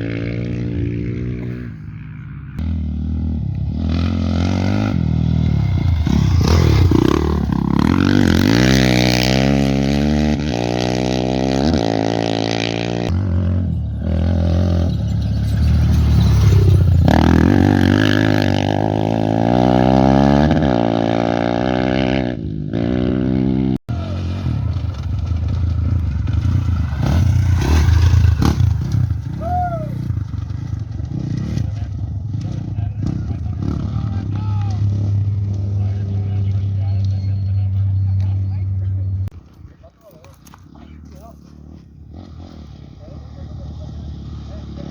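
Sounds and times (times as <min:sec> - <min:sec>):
motorcycle engines revving past: 0:00.0 - 0:44.9.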